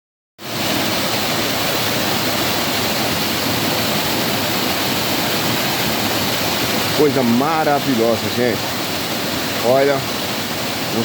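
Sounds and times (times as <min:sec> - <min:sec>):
rushing water: 0:00.4 - 0:11.0.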